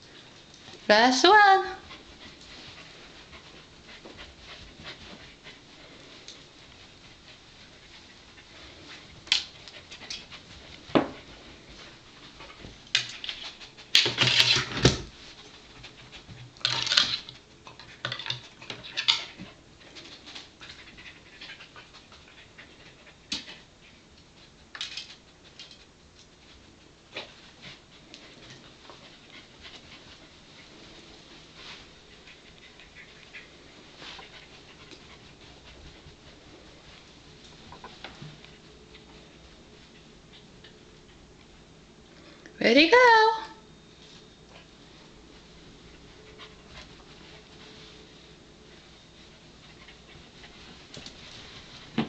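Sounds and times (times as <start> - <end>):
dog panting: 1.7 - 14.0, 15.3 - 16.7, 17.5 - 24.5, 27.2 - 41.7, 44.5 - 51.9.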